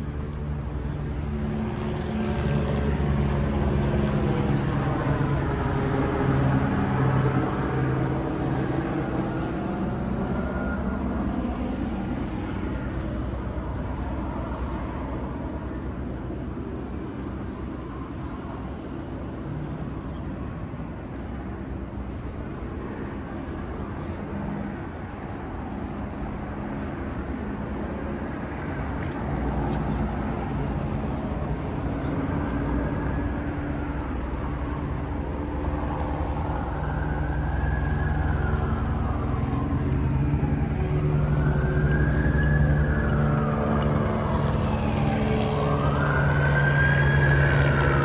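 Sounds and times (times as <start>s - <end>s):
large engine passing: 0.7s - 48.0s.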